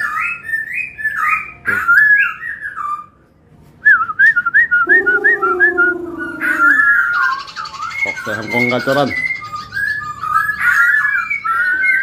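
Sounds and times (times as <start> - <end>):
bird singing whistled phrases: 0.0 - 3.2, 3.8 - 12.0.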